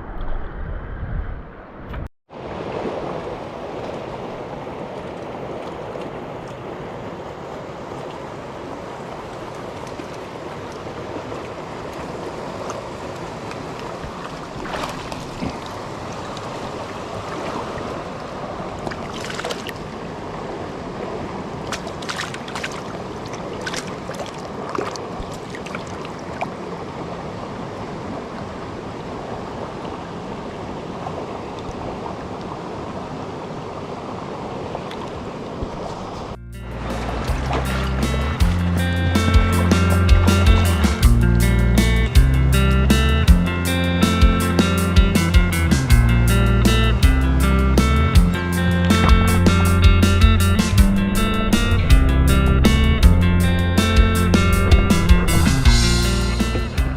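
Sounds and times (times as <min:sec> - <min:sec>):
fast-flowing river rushing: 0:02.3 - 0:41.1, 0:47.8 - 0:56.9.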